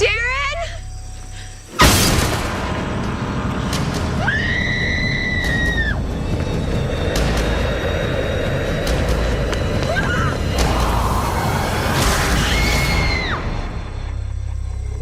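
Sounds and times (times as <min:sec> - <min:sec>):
dense rumbling score: 0:02.2 - 0:15.0.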